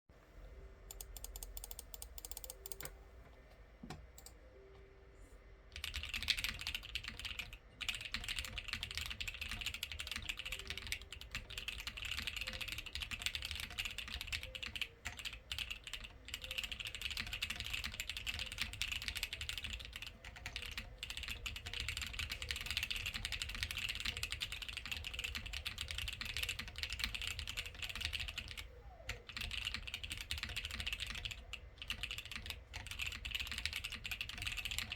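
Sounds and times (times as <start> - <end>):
mechanical keyboard typing: 0.9 - 3.0, 5.7 - 34.9.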